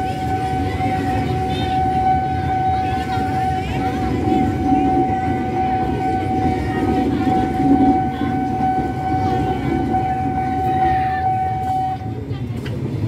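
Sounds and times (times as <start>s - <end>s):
crossing warning alarm: 0.0s - 12.2s
train wheels rumbling: 0.0s - 13.0s.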